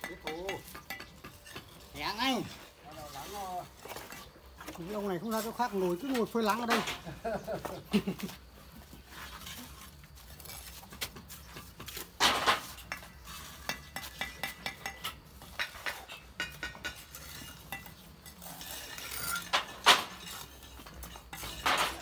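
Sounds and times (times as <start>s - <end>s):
trowel scraping and tapping bricks: 0.0s - 22.0s.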